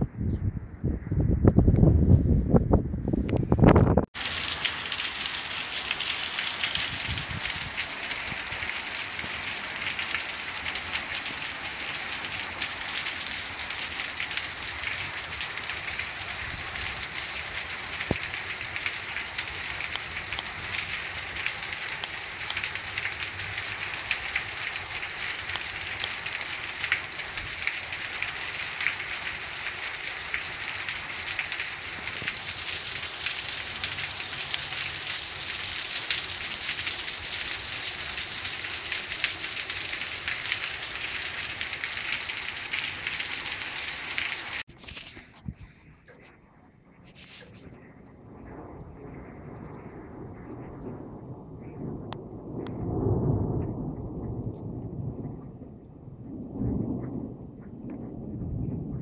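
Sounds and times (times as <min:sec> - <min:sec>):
steady rain falling: 0:04.1 - 0:59.0.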